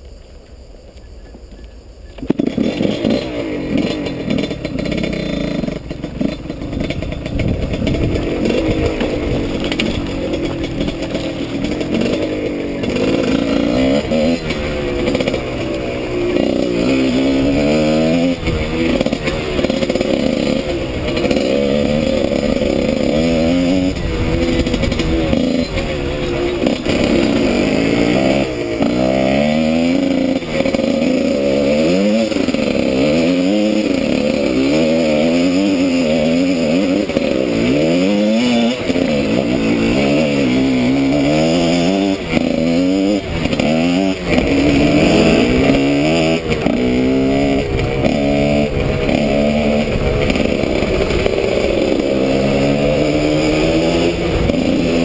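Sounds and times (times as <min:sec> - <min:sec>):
two-stroke motorcycle engine revving: 0:02.2 - 0:55.0.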